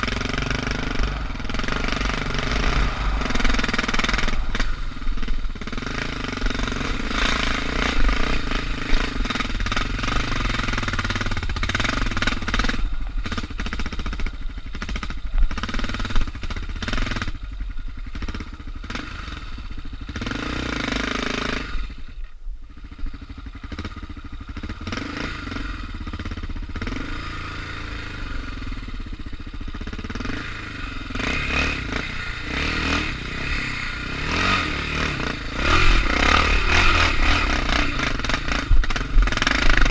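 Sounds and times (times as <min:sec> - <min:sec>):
motorcycle engine pulling: 0:00.0 - 0:39.9.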